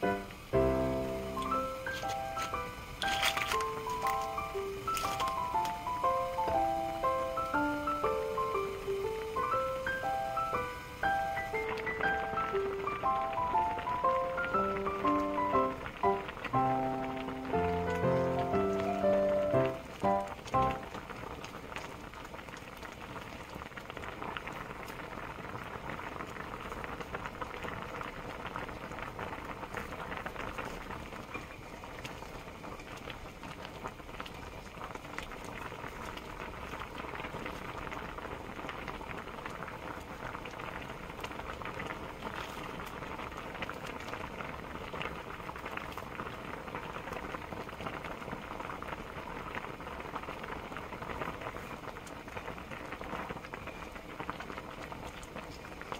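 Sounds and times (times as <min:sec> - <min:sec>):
soup boiling and bubbling: 0:00.0 - 0:55.9.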